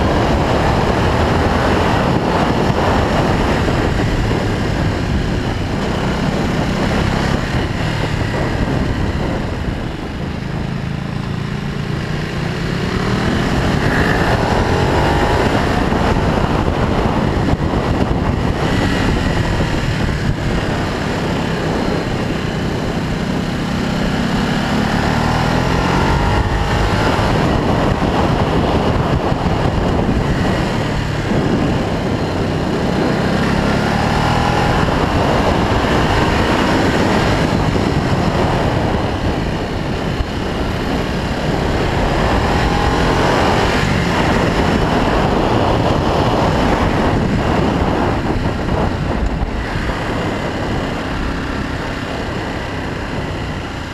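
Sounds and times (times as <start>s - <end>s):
motorcycle engine revving: 0.0s - 53.9s
wind rushing over microphone: 0.0s - 53.9s.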